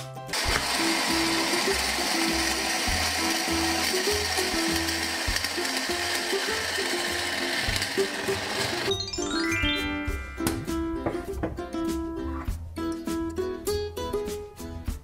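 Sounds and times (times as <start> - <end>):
light background music: 0.0 - 15.0.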